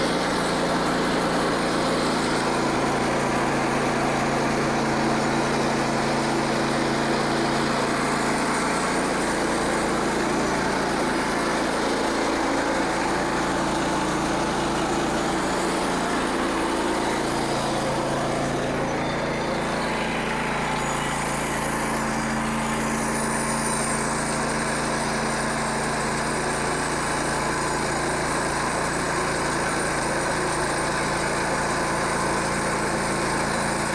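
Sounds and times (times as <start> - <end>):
sawmill engine running: 0.0 - 33.9.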